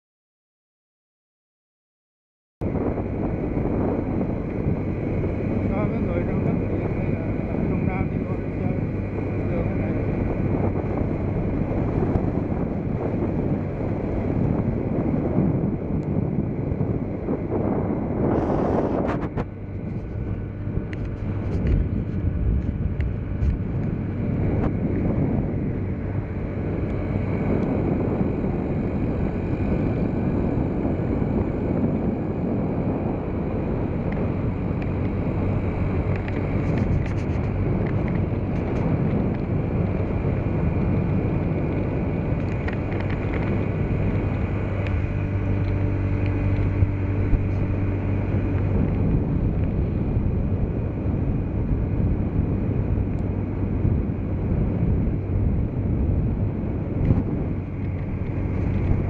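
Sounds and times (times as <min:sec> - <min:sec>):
wind buffeting microphone: 0:02.6 - 0:59.0
motorbike engine running: 0:02.7 - 0:59.0.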